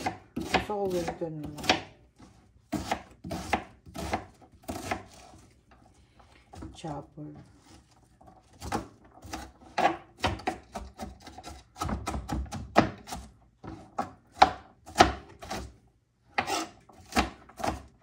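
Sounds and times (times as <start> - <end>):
knife chopping onion on board: 0.0 - 5.4, 8.5 - 18.0.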